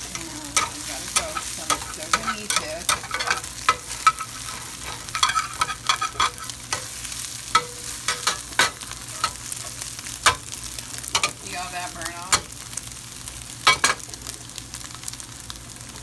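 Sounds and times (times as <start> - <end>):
food sizzling in a pan: 0.0 - 16.0
oil crackling and popping: 0.0 - 16.0.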